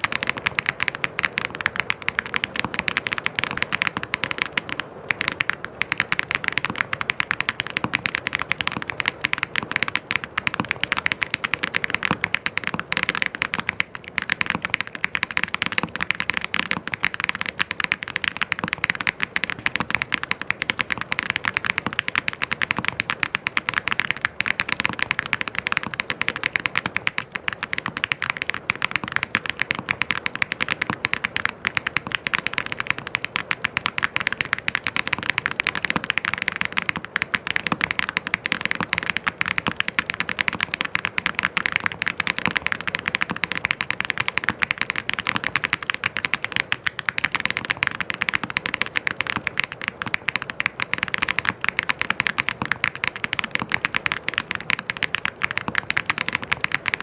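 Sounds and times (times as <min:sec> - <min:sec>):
mechanical keyboard typing: 0:00.0 - 0:57.0.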